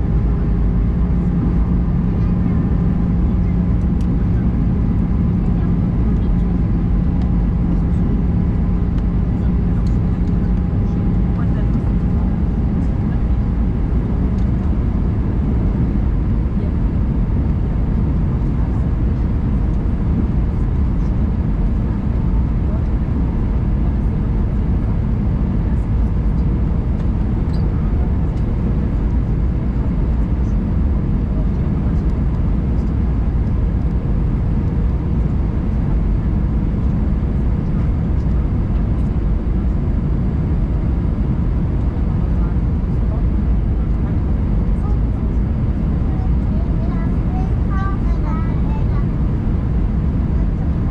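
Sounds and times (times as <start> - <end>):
airflow over fuselage: 0.0 - 50.9
jet engines droning: 0.0 - 50.9.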